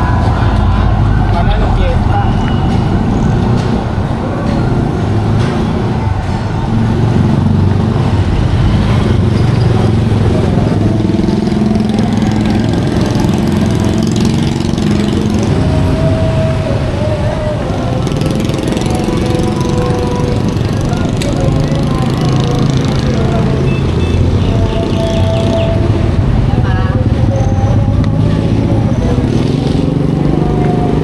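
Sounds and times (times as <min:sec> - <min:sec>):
people's voices: 0:00.0 - 0:31.0
vehicle engines idling: 0:00.0 - 0:31.0.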